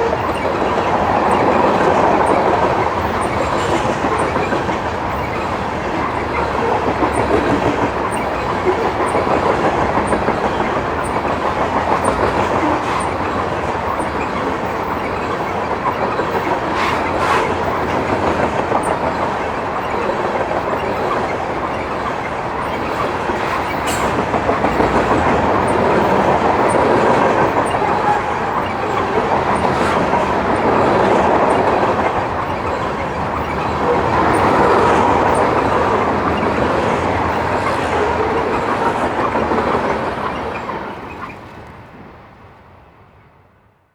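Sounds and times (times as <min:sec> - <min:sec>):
wheels clicking over rail joints: 0:00.0 - 0:42.0
freight train cars rumbling past: 0:00.0 - 0:43.7.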